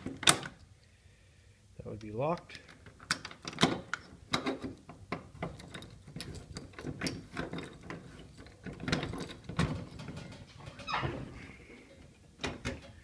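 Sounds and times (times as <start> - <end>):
metallic lock clicks and rattles: 0.0 - 0.7, 2.4 - 11.3, 11.9 - 13.0.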